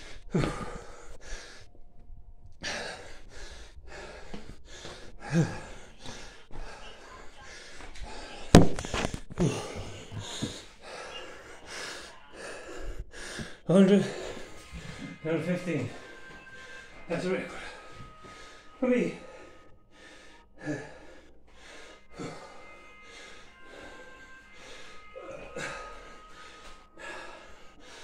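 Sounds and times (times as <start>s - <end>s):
man panting heavily: 0.0s - 1.8s, 2.6s - 28.0s.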